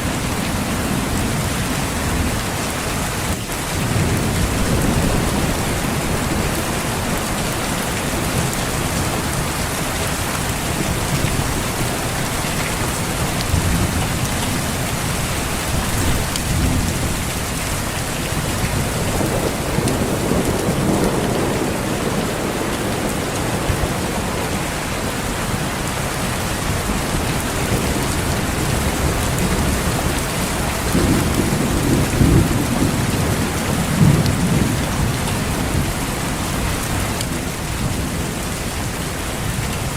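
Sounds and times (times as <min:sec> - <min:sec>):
heavy rain on foliage: 0:00.0 - 0:39.9
thunder rumbling: 0:03.3 - 0:38.5.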